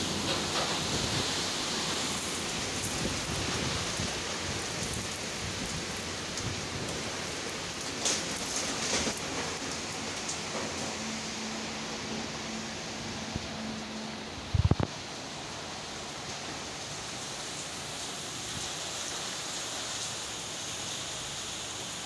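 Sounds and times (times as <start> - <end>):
heavy rain in strong wind: 0.0 - 22.0.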